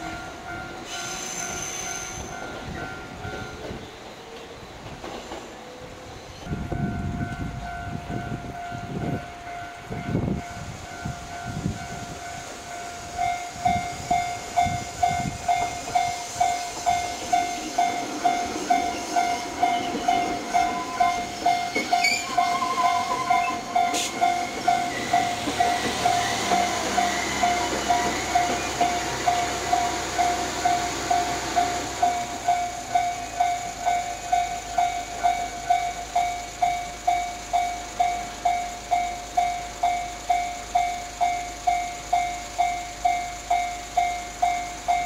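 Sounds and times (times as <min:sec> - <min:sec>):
loud electronic bell clanging: 0:06.5 - 0:45.0.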